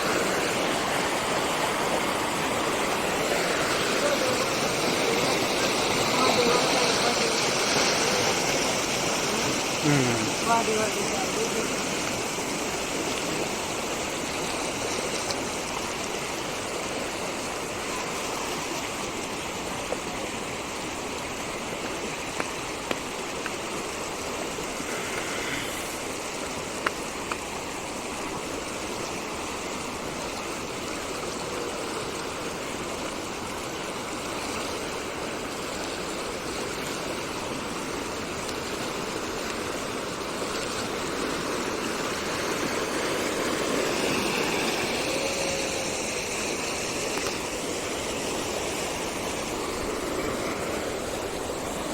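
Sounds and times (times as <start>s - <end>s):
water rushing down a stream: 0.0s - 51.9s.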